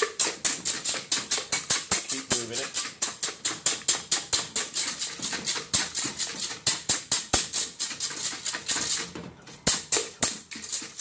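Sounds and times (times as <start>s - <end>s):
wire whisk scraping metal bowl: 0.0s - 11.0s.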